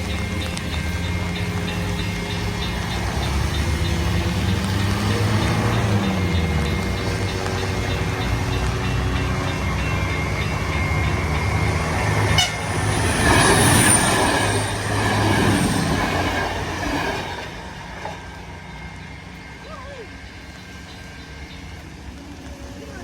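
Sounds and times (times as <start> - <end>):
train cars rumbling past: 0.0 - 23.0
train engine drone: 0.0 - 23.0.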